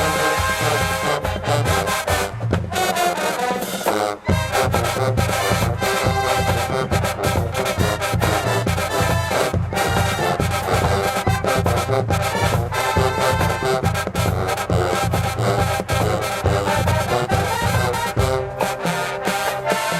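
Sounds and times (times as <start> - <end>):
low drums and bass horns: 0.0 - 19.9
marching band playing: 0.0 - 19.9.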